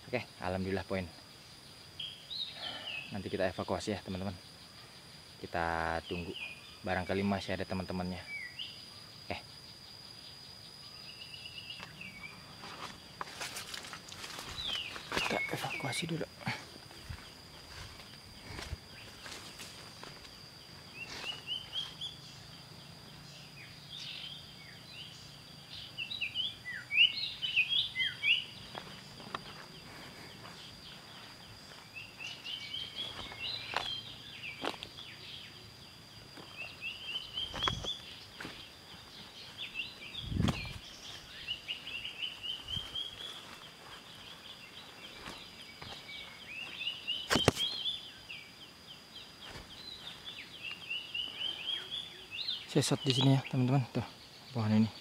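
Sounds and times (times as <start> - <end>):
birds singing: 0.0 - 55.0
high insect drone: 0.0 - 55.0.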